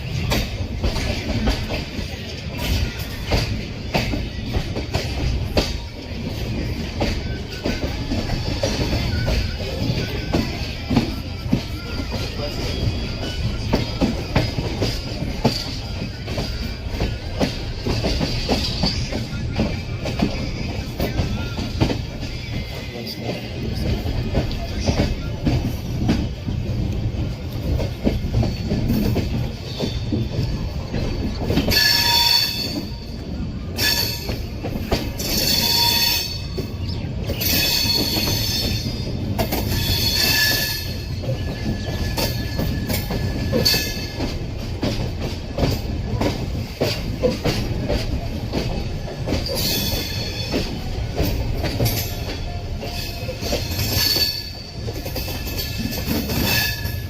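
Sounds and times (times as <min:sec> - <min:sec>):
train wheel squeal: 0:00.0 - 0:57.0
train wheels clattering on rails: 0:00.0 - 0:57.0.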